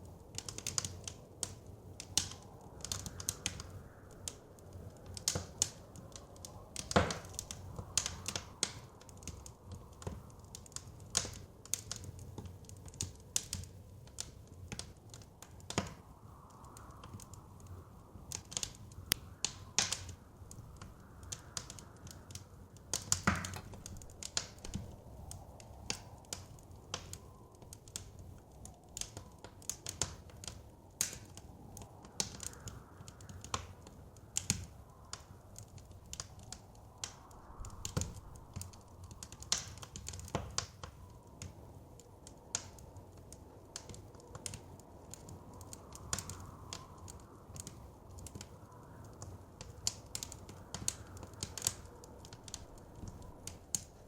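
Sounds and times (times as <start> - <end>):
soft wind: 0.0 - 54.0
wood fire crackling and popping: 0.0 - 54.0.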